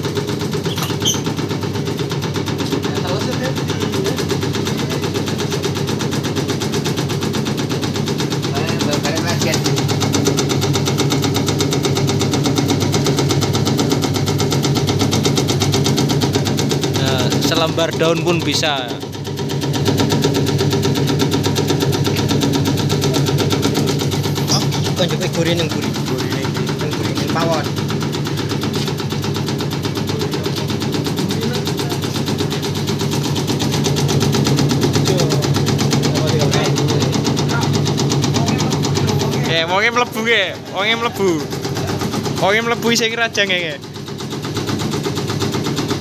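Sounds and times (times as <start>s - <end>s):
leaf-slicing machine cutting: 0.0s - 46.0s
motor hum: 0.0s - 46.0s.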